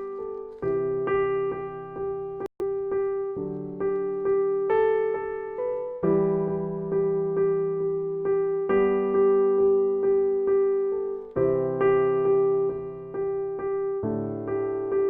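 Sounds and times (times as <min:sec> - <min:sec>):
piano repeating chords: 0:00.0 - 0:15.0.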